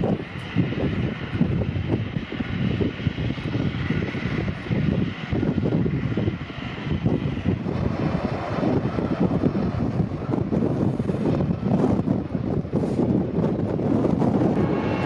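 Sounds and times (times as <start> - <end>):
jet engine rush: 0.0 - 15.0
wind buffeting microphone: 0.0 - 15.0.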